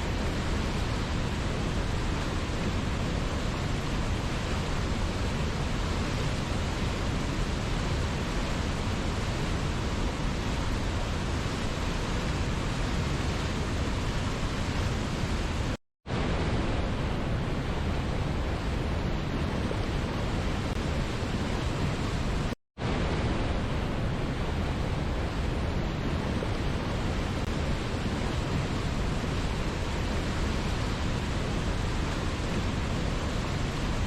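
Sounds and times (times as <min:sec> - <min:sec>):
waterfall rushing water: 0:00.0 - 0:34.0.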